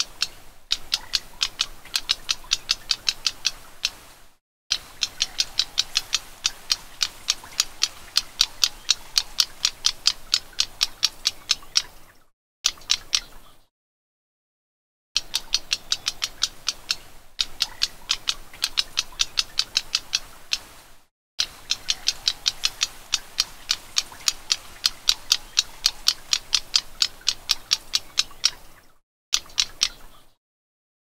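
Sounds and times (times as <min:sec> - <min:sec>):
bird ticking call notes: 0:00.0 - 0:12.1, 0:12.7 - 0:13.4, 0:15.2 - 0:30.4.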